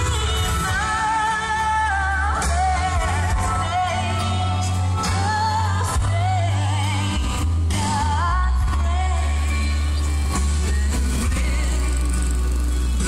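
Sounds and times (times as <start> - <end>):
person singing over loudspeakers: 0.0 - 12.5.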